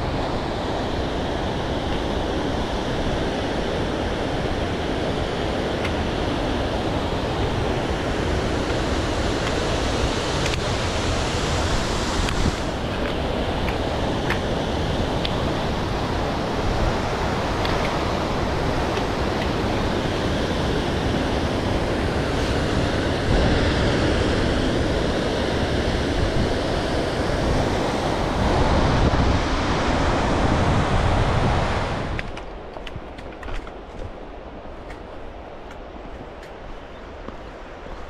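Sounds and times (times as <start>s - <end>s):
fast-flowing mountain water: 0.0s - 33.4s.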